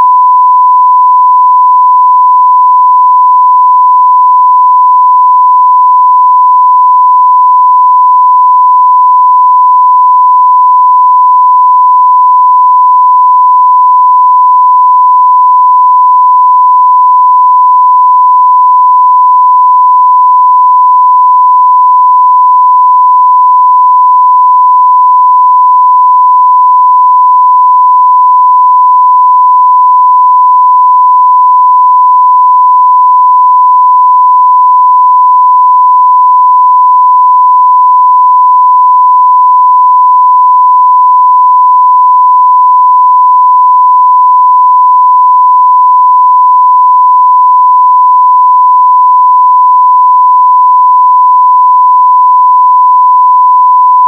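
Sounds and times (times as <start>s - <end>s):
sine wave test tone: 0.0s - 54.0s.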